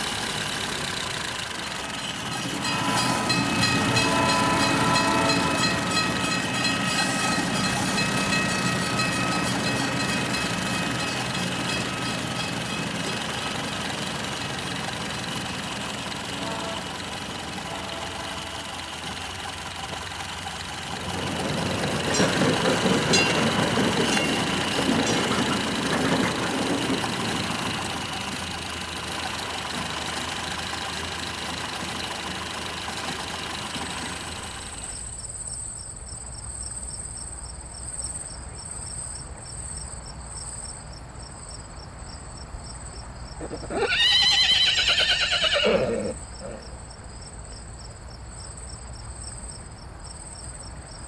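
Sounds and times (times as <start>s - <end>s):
crickets chirping: 1.7s - 29.4s, 30.0s - 51.0s.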